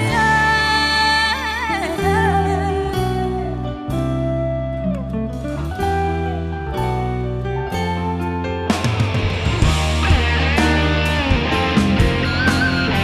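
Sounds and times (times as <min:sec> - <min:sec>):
bass notes: 0:00.0 - 0:13.0
electric guitar melody: 0:00.0 - 0:13.0.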